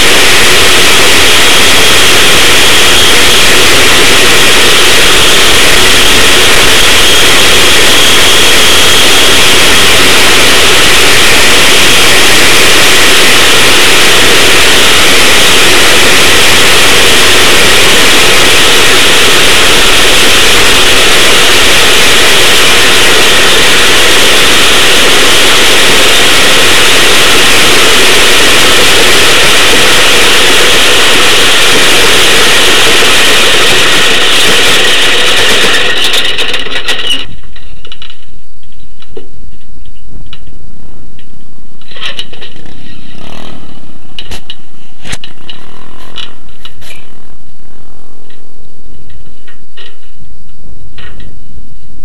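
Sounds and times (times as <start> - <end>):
distorted go-kart engine: 0.0 - 39.2, 41.1 - 51.3.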